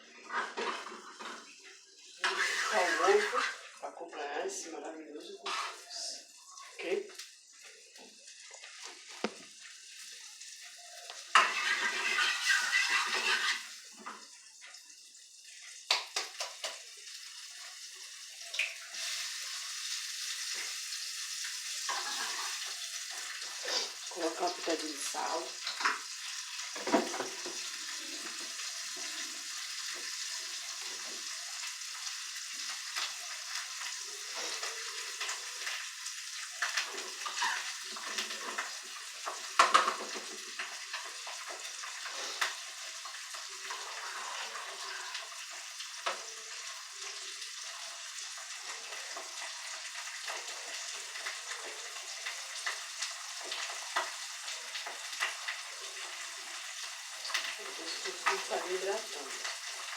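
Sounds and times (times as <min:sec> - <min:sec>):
egg sizzling in a pan: 0:00.0 - 0:59.9.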